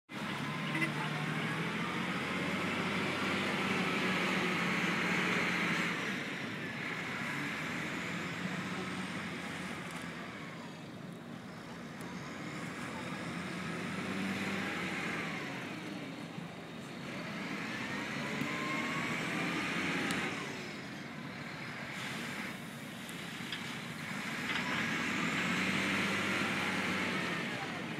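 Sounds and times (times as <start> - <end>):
vehicle engines and traffic: 0.1 - 27.9.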